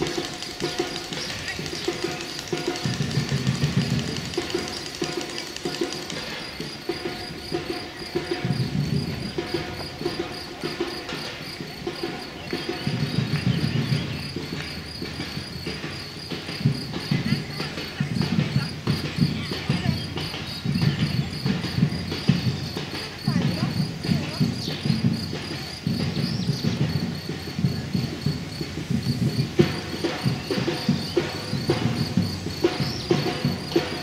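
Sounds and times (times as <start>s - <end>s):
high-pitched ticking: 0.0s - 34.0s
runners' footsteps on asphalt: 0.0s - 34.0s.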